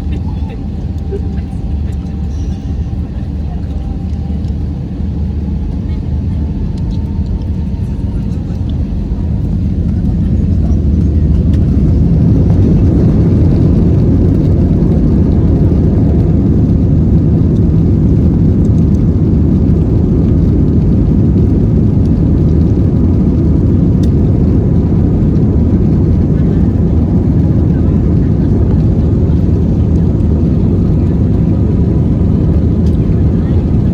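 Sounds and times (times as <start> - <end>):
jet engines rumbling in cabin: 0.0 - 33.9
rushing airflow: 0.0 - 33.9.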